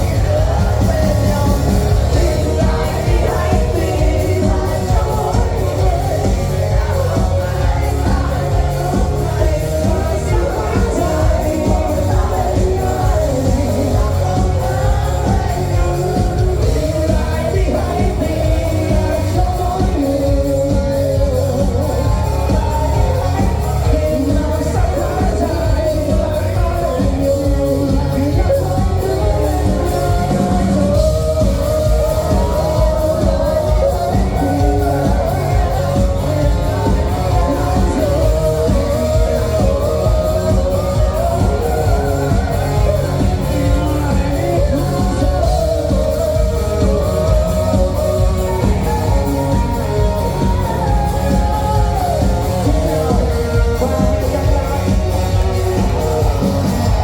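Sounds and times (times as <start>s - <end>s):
band with heavy beat: 0.0s - 57.0s
person singing: 0.0s - 57.0s.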